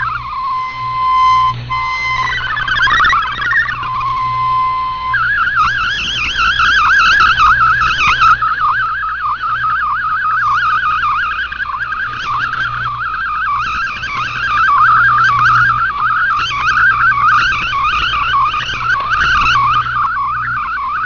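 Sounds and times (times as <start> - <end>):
digital data tones warbling: 0.0 - 21.0
low hum: 0.0 - 21.0
steady tone: 0.0 - 21.0.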